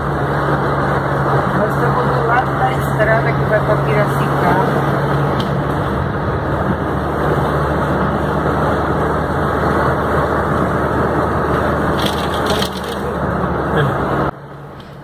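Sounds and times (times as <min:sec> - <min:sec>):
heavy rain on car: 0:00.0 - 0:14.3
car engine humming: 0:00.0 - 0:15.0
tyres on flooded road: 0:00.0 - 0:15.0.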